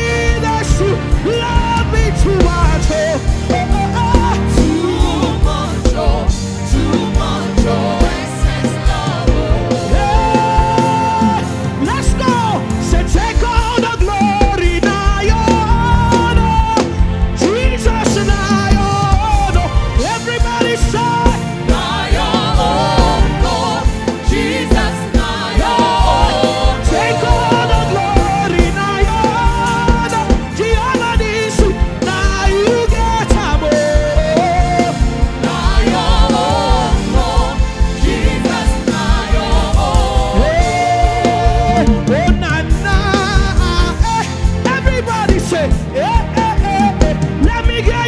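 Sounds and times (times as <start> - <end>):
band with drum and bass beat: 0.0 - 48.0.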